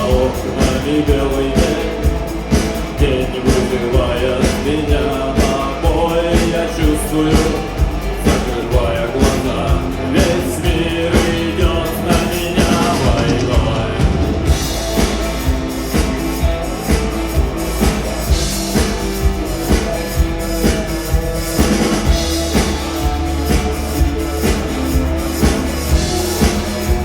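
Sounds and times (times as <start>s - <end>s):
drum kit beat: 0.0s - 27.0s
electric guitars: 0.0s - 27.0s
live rock band: 0.0s - 27.0s.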